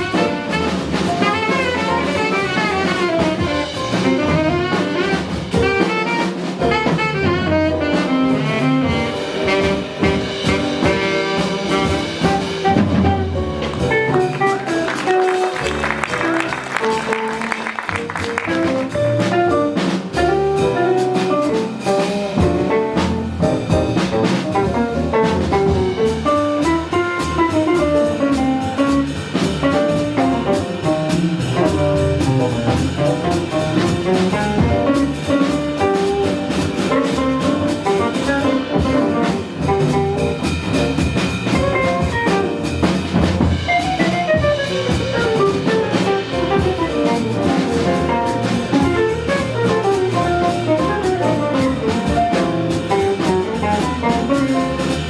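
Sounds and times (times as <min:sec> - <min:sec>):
bass: 0:00.0 - 0:55.0
drum kit: 0:00.0 - 0:55.0
lead melody: 0:00.0 - 0:55.0.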